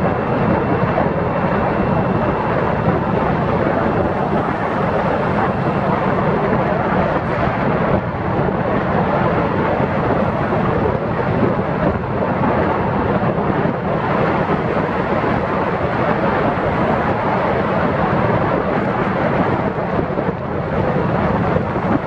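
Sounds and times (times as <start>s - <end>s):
road and tyre noise: 0.0s - 22.0s
wind buffeting microphone: 0.0s - 22.0s.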